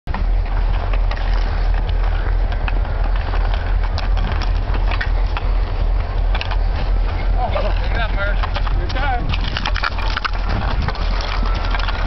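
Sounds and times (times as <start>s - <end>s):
skates and sticks clacking on ice: 0.1s - 12.0s
wind buffeting microphone: 0.1s - 12.0s.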